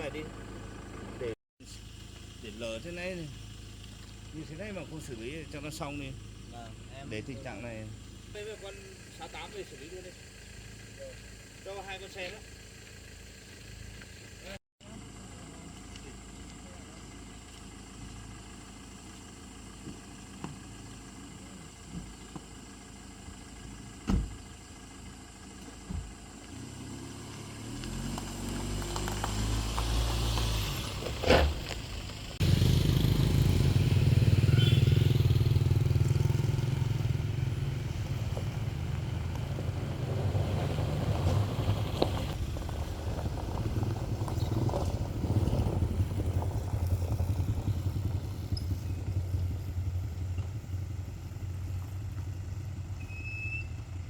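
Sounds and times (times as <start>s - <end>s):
engine rumble: 0.0s - 54.0s.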